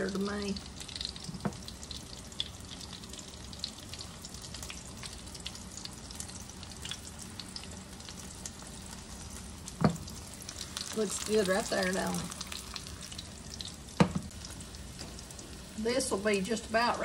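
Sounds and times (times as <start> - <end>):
meat sizzling in a skillet: 0.0 - 17.0.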